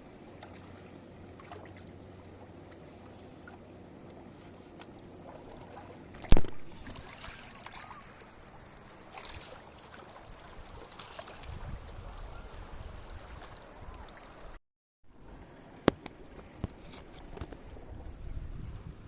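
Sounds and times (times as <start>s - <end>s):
faint river water running: 0.0s - 19.0s.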